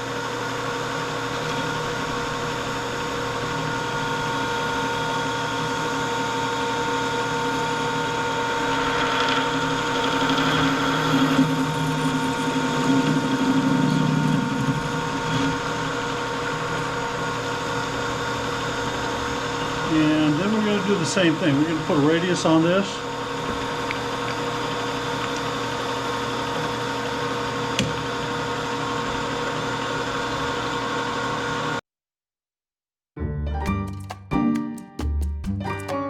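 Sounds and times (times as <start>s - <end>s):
lathe cutting steel: 0.0s - 31.7s
metal lathe gear whine: 0.0s - 31.8s.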